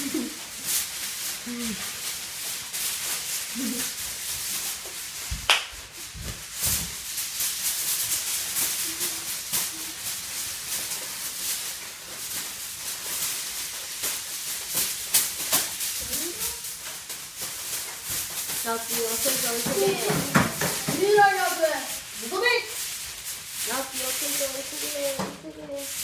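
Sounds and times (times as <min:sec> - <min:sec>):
aluminium foil crinkling: 0:00.0 - 0:26.0.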